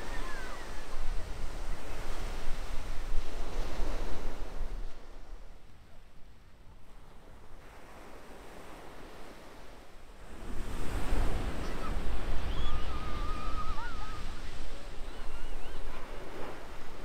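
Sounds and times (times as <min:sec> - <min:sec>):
ocean surf breaking on beach: 0:00.0 - 0:05.4, 0:07.7 - 0:17.0.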